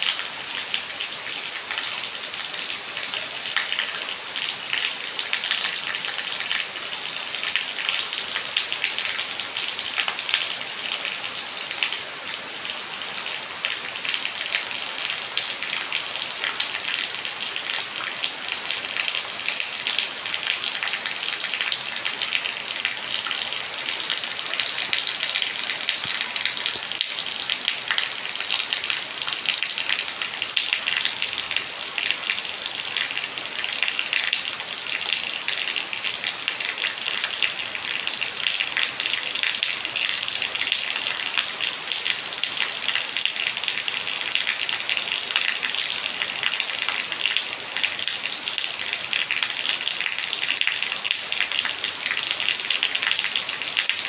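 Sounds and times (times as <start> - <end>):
rain on concrete steps: 0.0 - 54.0.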